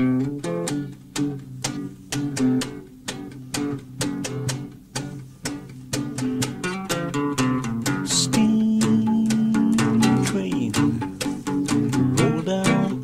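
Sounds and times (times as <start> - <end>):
instrumental guitar playing: 0.0 - 13.0.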